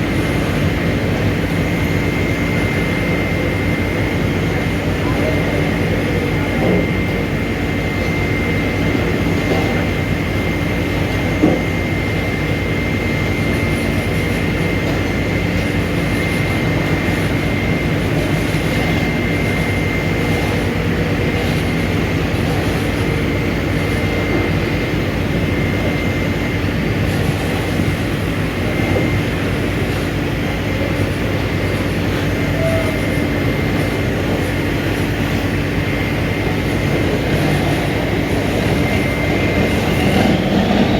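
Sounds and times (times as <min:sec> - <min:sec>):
diesel engine droning: 0:00.0 - 0:40.9
high whine: 0:00.0 - 0:40.9.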